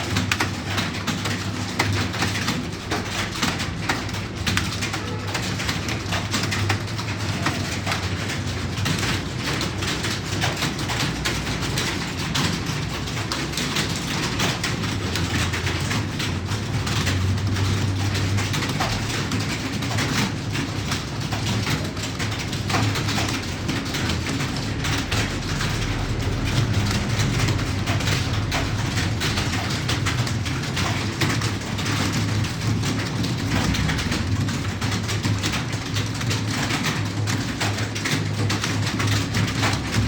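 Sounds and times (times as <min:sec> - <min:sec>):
keyboard typing: 0:00.0 - 0:34.6.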